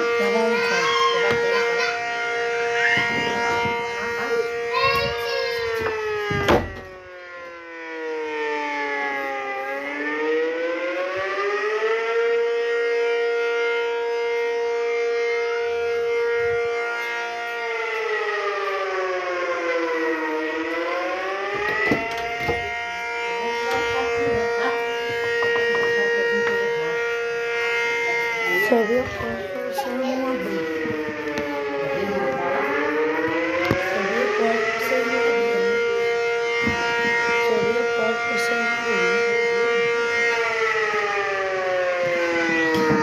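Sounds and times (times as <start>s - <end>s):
tornado siren wailing: 0.0s - 43.0s.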